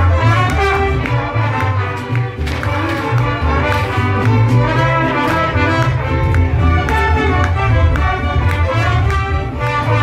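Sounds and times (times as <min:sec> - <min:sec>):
bass line: 0:00.0 - 0:10.0
music with brass instruments: 0:00.0 - 0:10.0.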